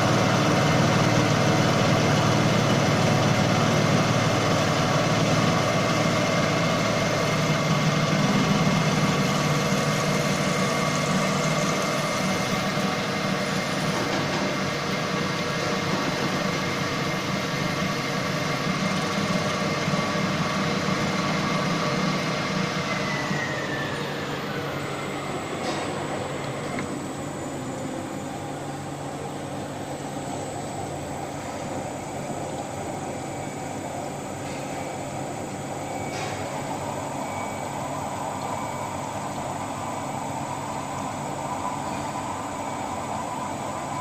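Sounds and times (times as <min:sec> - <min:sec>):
machine motor whine: 0:00.0 - 0:44.0.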